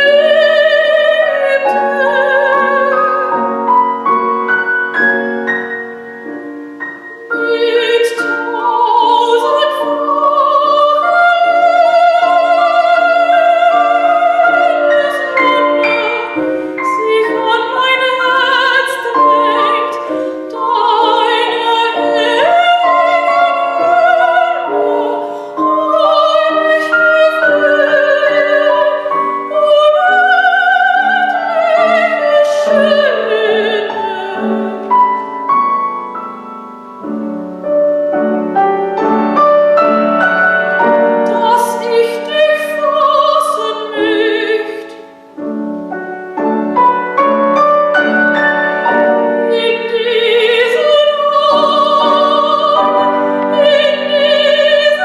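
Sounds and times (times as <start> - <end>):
piano accompaniment: 0.0 - 55.0
soprano singing with vibrato: 0.0 - 55.0.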